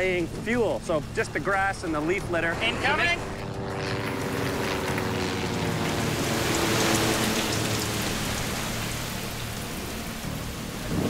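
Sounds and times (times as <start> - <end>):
low-flying plane engine droning: 0.0 - 11.0.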